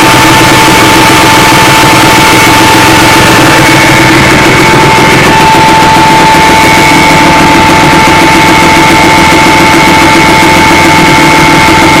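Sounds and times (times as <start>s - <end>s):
high engine whine: 0.0s - 12.0s
motorcycle engine running: 0.0s - 12.0s.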